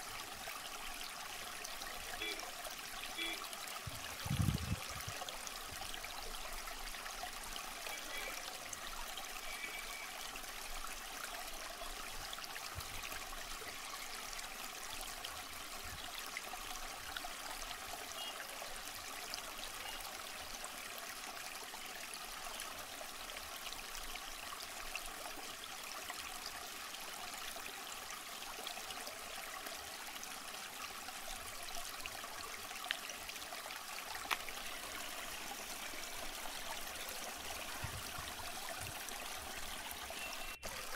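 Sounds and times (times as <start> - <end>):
canal water flowing: 0.0 - 40.9.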